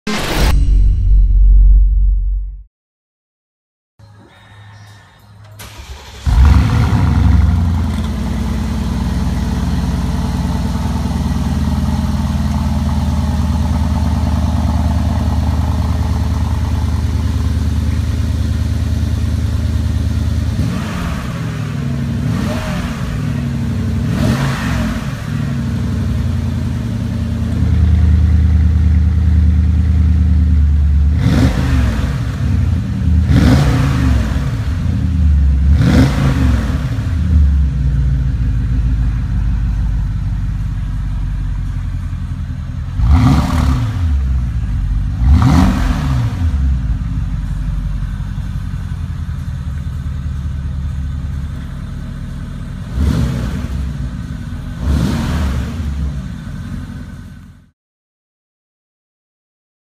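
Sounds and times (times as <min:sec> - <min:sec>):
car engine idling: 0:05.3 - 0:24.4, 0:25.0 - 0:31.5, 0:34.3 - 0:57.7
car engine starting: 0:05.3 - 0:57.6
car engine revving: 0:05.6 - 0:57.4.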